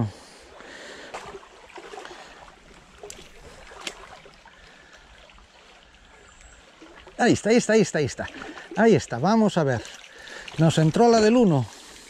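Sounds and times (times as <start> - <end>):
stream running over gravel: 0.5 - 12.0.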